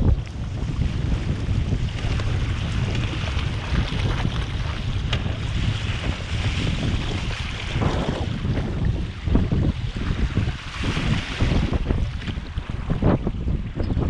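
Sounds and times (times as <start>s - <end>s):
water splashing along hull: 0.0s - 14.0s
wind buffeting microphone: 0.0s - 14.0s.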